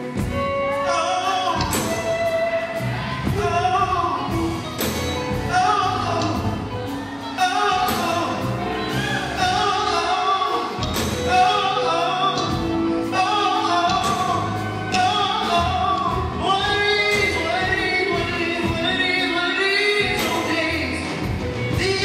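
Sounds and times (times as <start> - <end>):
drums: 0.0 - 22.0
electric guitars: 0.0 - 22.0
keyboard: 0.0 - 22.0
man singing lead: 0.0 - 22.0
backing singers: 1.0 - 22.0.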